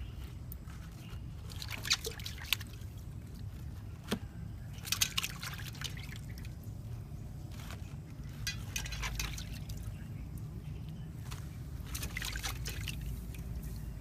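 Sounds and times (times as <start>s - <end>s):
steady low hum: 0.0s - 14.0s
water trickling and splashing: 0.0s - 14.0s.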